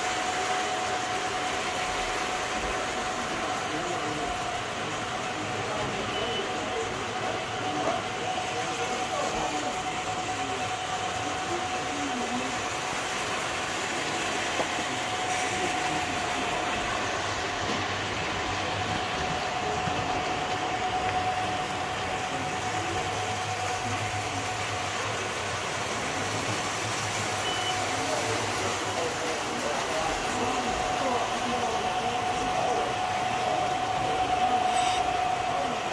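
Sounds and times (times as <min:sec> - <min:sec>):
model train cars rumbling: 0:00.0 - 0:35.9.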